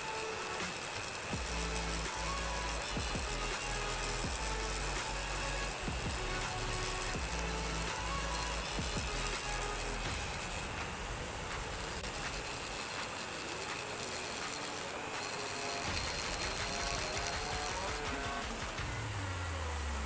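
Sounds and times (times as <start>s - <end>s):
rotary tool grinding metal: 0.0s - 20.0s.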